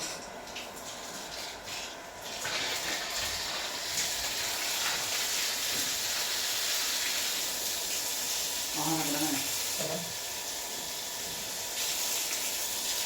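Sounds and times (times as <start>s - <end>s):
water running with hiss: 0.0s - 13.0s.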